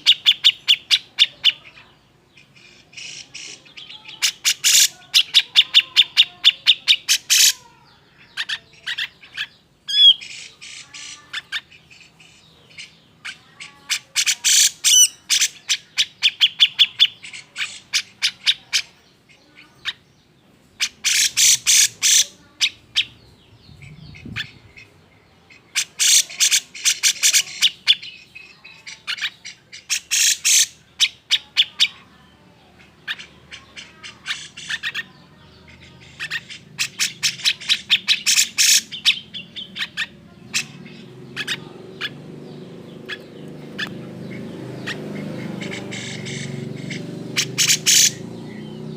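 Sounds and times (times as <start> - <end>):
bird harsh chattering calls: 0.0 - 48.9.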